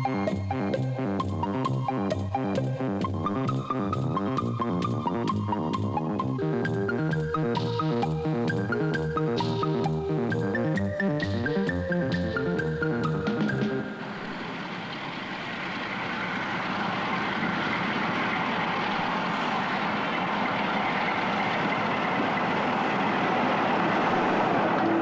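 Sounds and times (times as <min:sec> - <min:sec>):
diesel train running: 0:00.0 - 0:25.0
electronic music: 0:00.0 - 0:25.0.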